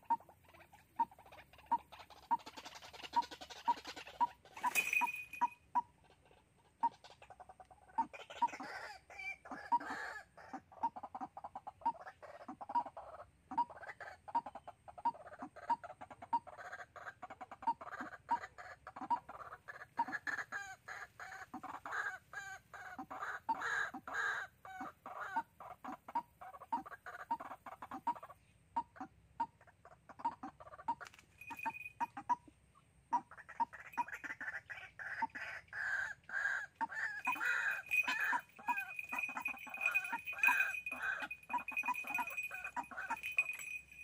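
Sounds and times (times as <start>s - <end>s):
waterhens calling: 0.0s - 44.0s.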